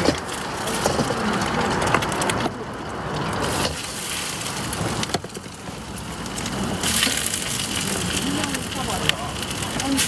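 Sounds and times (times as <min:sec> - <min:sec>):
food sizzling on a grill: 0:00.0 - 0:10.0.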